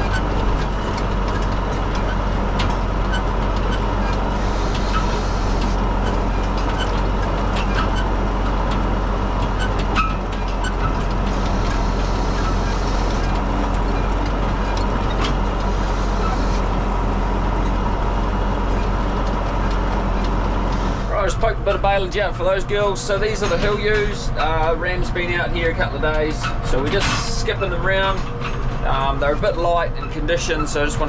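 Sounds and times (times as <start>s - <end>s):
vehicle engine running steadily: 0.0s - 31.0s.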